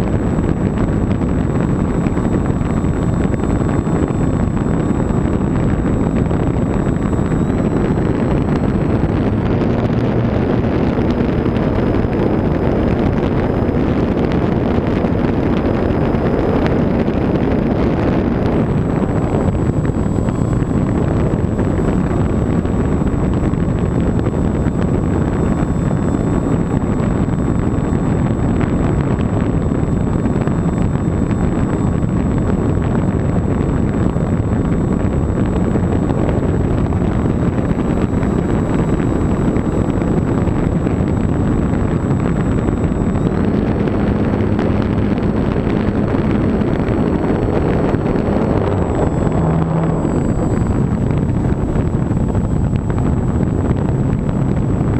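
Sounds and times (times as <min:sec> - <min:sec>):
faint high whine: 0:00.0 - 0:54.9
model plane motor and propeller: 0:00.0 - 0:54.9
wind buffeting microphone: 0:00.0 - 0:54.9.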